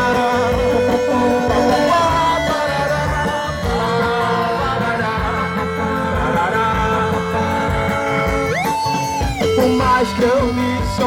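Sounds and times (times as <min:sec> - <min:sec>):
electric guitar: 0:00.0 - 0:11.0
live band instrumental music: 0:00.0 - 0:11.0.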